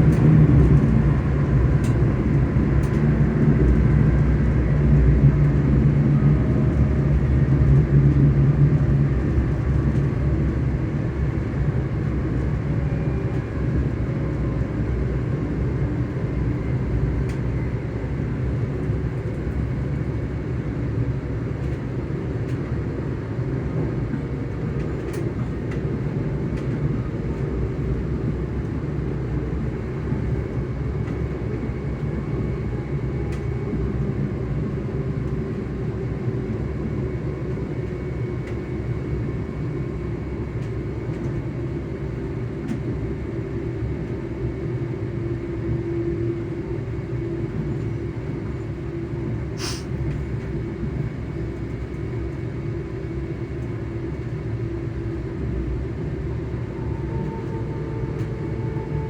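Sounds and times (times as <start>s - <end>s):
rail running noise: 0.0s - 59.0s
train traction motors humming: 0.0s - 59.0s.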